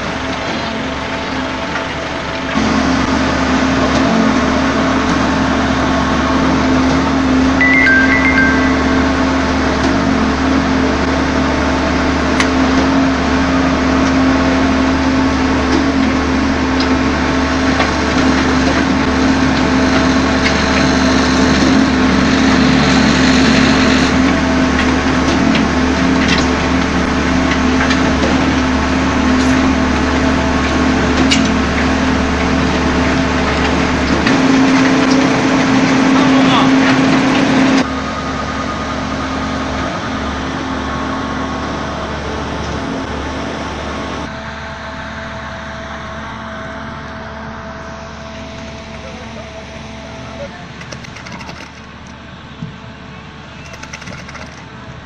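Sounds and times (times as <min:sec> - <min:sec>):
pump engine running: 0:00.0 - 0:52.6, 0:53.3 - 0:55.0.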